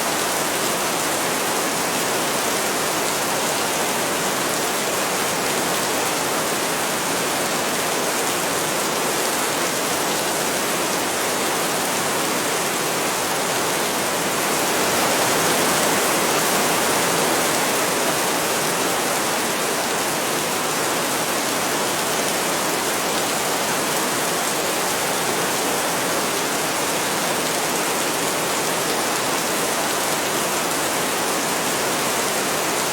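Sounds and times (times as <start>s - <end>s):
heavy rain: 0.0s - 32.9s.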